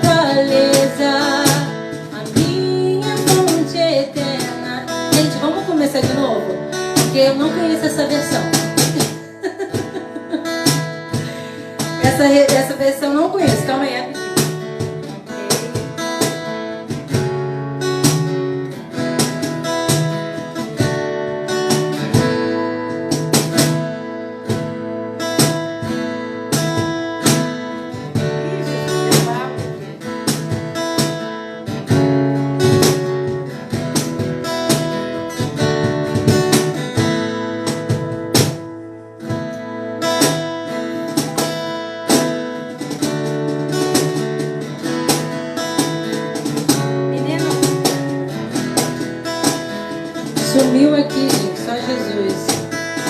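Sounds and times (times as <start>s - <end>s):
acoustic guitar strummed: 0.0s - 53.0s.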